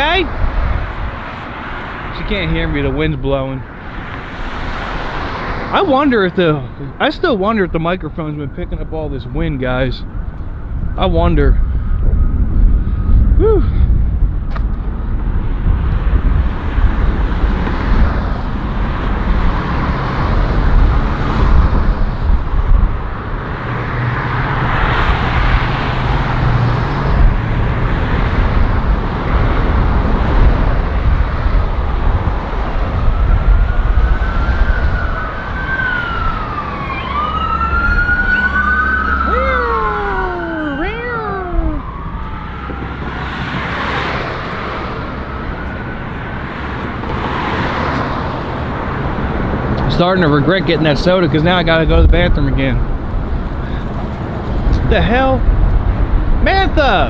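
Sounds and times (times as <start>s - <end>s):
siren wailing: 0.0s - 52.7s
wind buffeting microphone: 0.0s - 57.0s.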